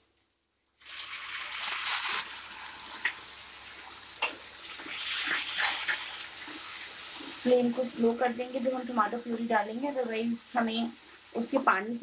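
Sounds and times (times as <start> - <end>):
tomato puree sizzling in hot oil: 0.7 - 12.0.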